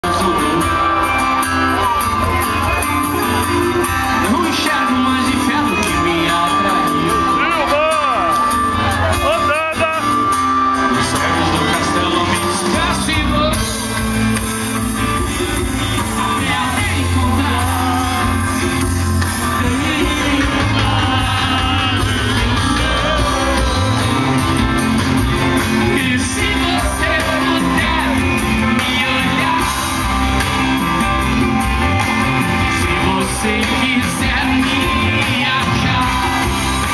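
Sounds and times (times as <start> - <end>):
live band with singer: 0.0 - 36.9
people shouting and singing along: 0.0 - 36.9.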